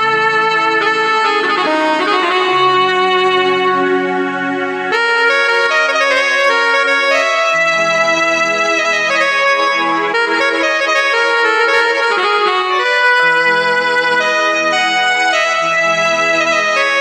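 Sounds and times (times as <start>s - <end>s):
synthesizer melody over chords: 0.0s - 17.0s.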